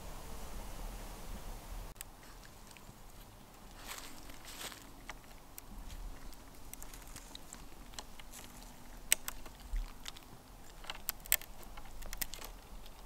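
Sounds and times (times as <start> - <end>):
dog gnawing wooden stick: 2.2 - 13.0.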